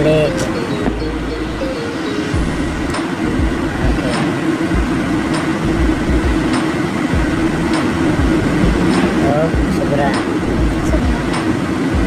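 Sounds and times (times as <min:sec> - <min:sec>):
air buffeting microphone: 0:00.0 - 0:12.0
road and engine rumble: 0:00.0 - 0:12.0.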